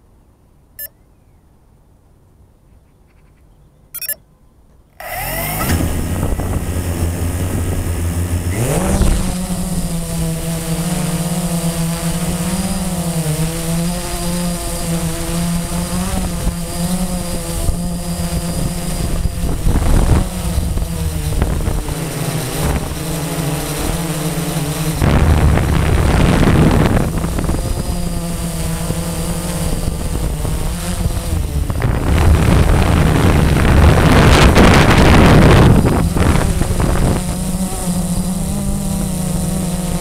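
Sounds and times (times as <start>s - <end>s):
quadcopter motors whining: 4.0s - 4.2s, 5.0s - 40.0s
wind noise on microphone: 5.0s - 40.0s.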